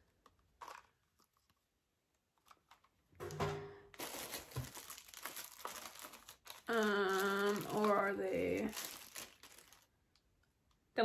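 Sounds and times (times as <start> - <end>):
packaging crinkling: 0.1 - 3.2, 3.9 - 10.4.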